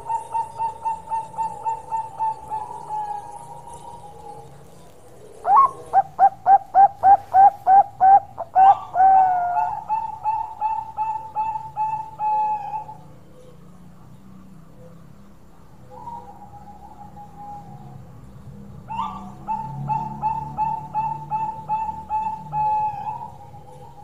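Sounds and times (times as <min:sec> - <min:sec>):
dove cooing: 0:00.0 - 0:13.6, 0:15.8 - 0:24.0.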